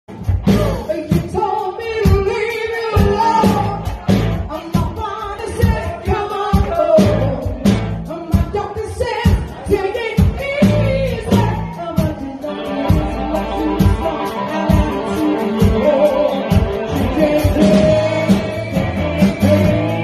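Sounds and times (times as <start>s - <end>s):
drums: 0.0s - 20.0s
electric guitar: 0.1s - 20.0s
woman singing: 0.5s - 20.0s.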